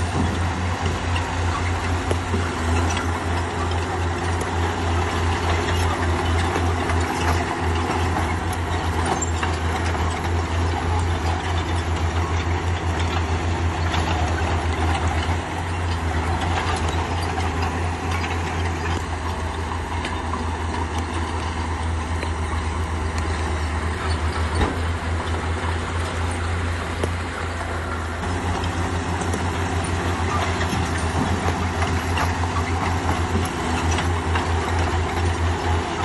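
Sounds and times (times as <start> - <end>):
bulldozer diesel engine running: 0.0 - 36.0
mechanical clatter: 0.0 - 36.0.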